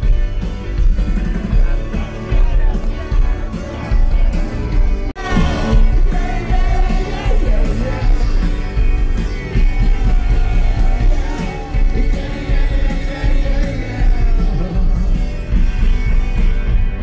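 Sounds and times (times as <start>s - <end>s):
live rock music with singer: 0.0s - 17.0s.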